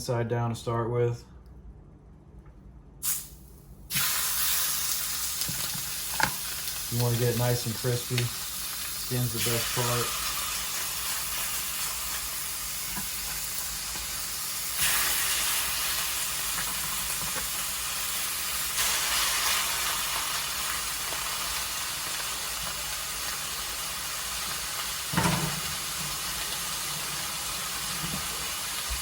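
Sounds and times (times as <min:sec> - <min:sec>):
chicken sizzling in a pan: 0:03.9 - 0:29.0.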